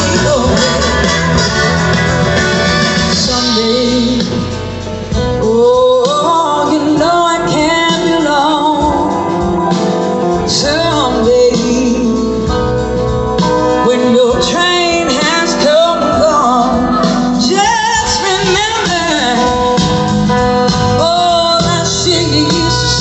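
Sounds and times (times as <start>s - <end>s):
bending lead melody: 0.0s - 23.0s
blues-rock band playing live: 0.0s - 23.0s.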